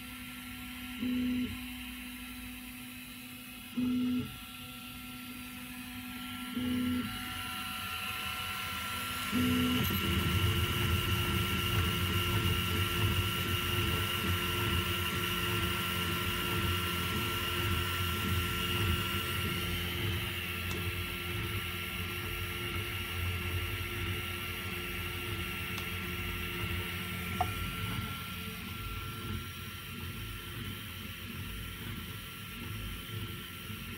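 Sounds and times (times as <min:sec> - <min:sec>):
steady whine: 0:05.1 - 0:33.9.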